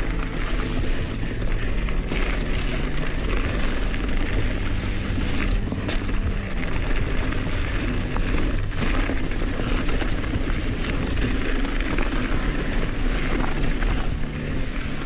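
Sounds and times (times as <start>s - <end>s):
bike tyres crunching over dirt: 0.0s - 15.0s
small clicks and rattles: 0.1s - 15.0s.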